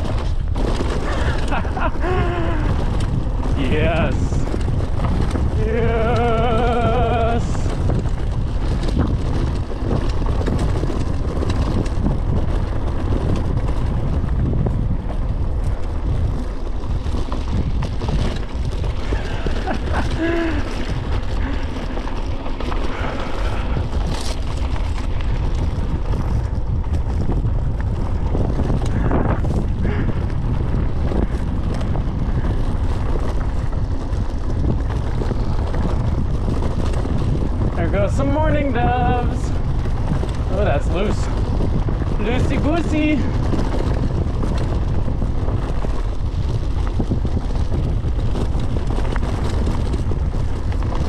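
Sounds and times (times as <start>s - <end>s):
bike rattling over bumps: 0.0s - 51.0s
tyres rolling on dirt: 0.0s - 51.0s
wind buffeting microphone: 0.0s - 51.0s.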